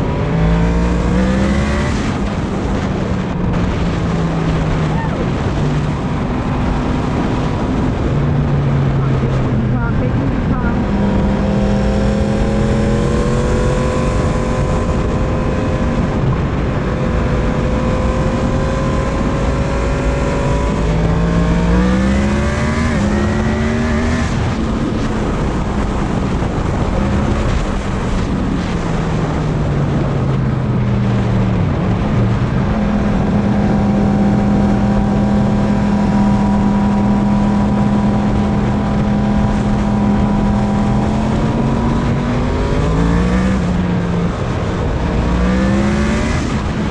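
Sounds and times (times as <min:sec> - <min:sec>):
motorcycle engine revving: 0:00.0 - 0:46.9
wind noise on microphone: 0:00.0 - 0:46.9.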